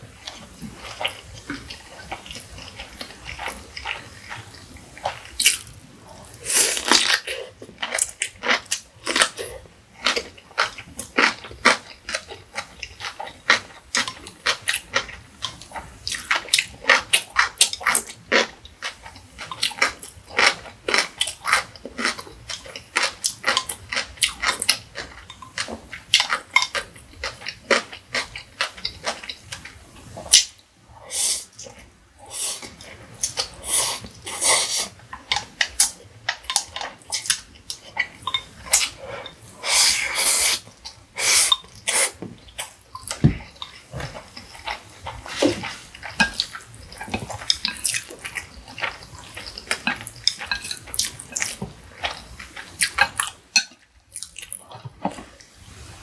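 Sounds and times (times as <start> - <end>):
person chewing food: 0.1 - 55.8.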